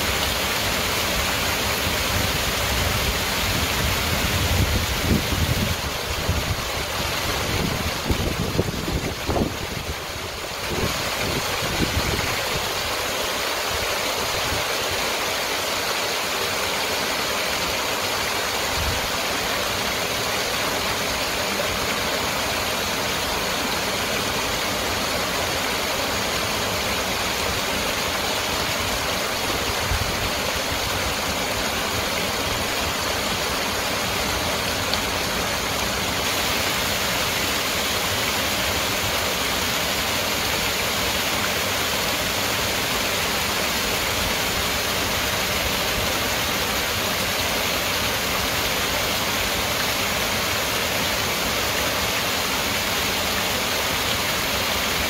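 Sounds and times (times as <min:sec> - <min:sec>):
water pouring over rocks: 0:00.0 - 0:55.0.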